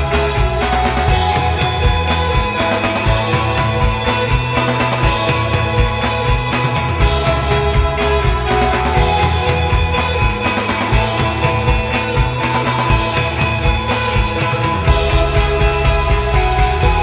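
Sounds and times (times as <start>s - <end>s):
background music with steady beat: 0.0s - 17.0s.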